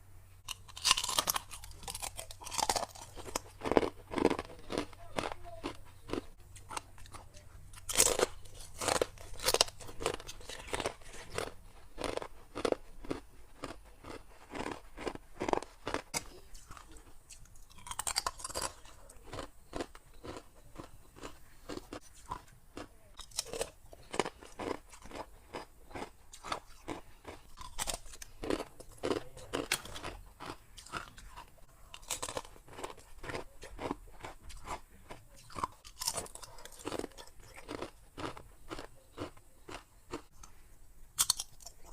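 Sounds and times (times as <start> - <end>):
ice crunching between teeth: 0.4 - 40.6, 41.2 - 41.9.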